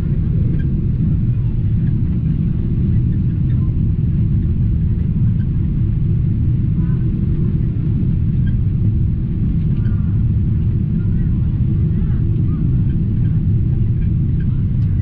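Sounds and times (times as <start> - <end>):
aircraft cabin engine rumble: 0.0 - 15.0.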